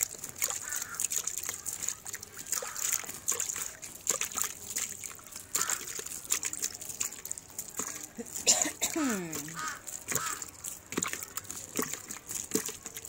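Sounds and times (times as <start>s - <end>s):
water splattering on soil: 0.0s - 13.0s.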